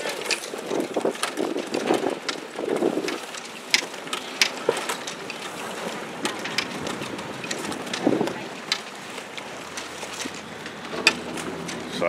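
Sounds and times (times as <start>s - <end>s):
sharp clicks and knocks: 0.0s - 12.0s
water rushing: 0.0s - 12.0s
wind buffeting the microphone: 0.0s - 12.0s.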